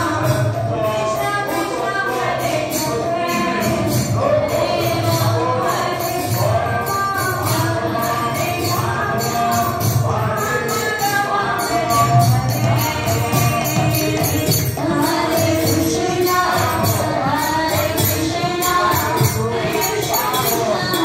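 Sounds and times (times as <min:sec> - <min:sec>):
jingling metal hand percussion: 0:00.0 - 0:21.0
voices singing a chant: 0:00.0 - 0:21.0.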